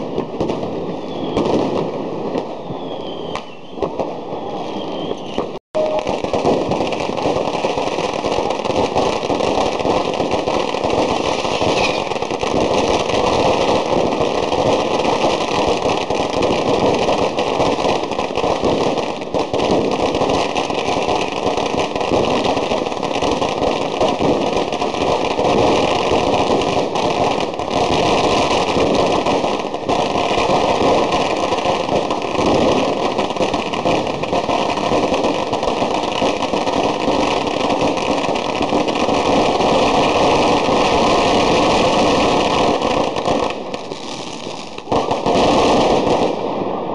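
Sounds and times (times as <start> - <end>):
firecrackers and fireworks banging: 0.0 - 46.9.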